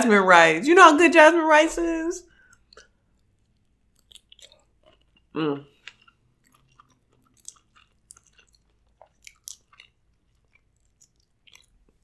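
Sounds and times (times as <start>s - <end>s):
wet mouth chewing: 2.4s - 12.0s.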